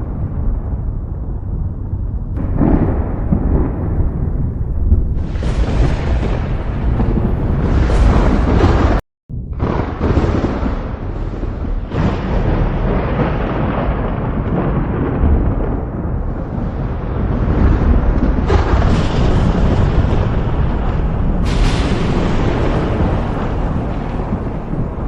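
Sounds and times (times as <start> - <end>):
heavy rain: 0.0 - 9.0, 9.6 - 25.0
thunder rumbling: 0.0 - 25.0.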